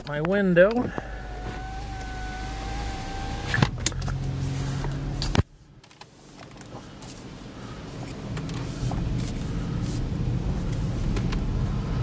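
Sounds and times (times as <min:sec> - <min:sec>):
car engine and road hum: 0:00.0 - 0:12.0.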